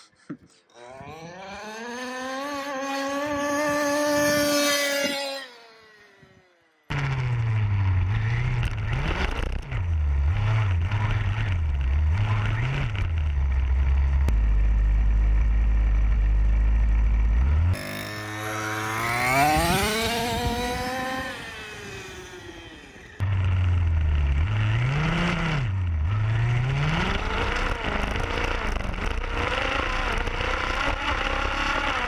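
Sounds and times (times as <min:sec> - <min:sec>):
rc car engine rumbling and revving: 0:00.0 - 0:32.0.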